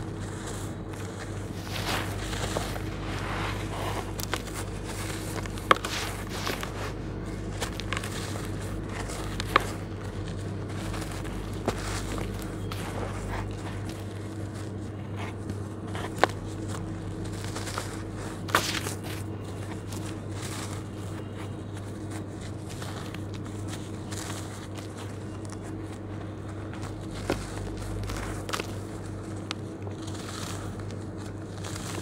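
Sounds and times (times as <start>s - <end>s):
hands crumbling damp mix: 0.0s - 32.0s
steady low hum: 0.0s - 32.0s.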